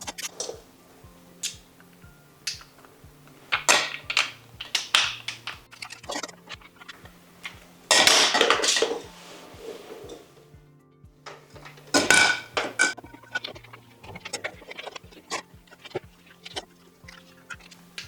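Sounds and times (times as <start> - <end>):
hand tools clicking and tapping: 1.4 - 9.1, 11.2 - 18.0.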